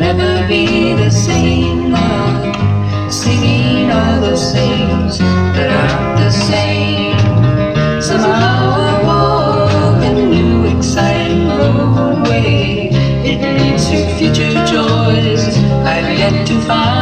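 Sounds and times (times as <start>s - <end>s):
folk-rock band playing: 0.0s - 17.0s.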